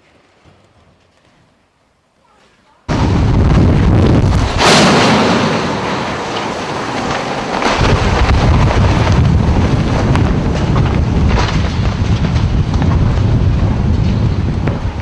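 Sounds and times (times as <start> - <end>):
wind buffeting microphone: 2.9 - 15.0.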